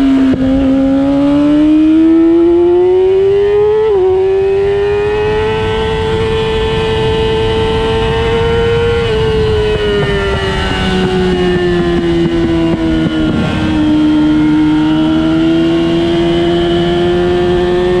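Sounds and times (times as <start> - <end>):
race car engine: 0.0 - 18.0.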